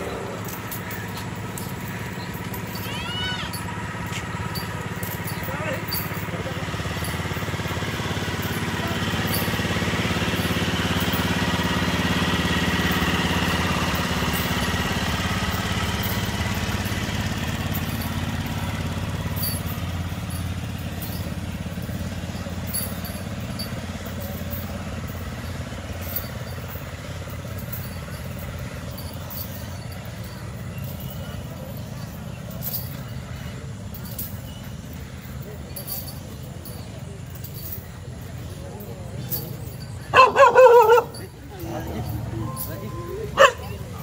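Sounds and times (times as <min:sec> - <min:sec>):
engine running at low revs: 0:00.0 - 0:44.0.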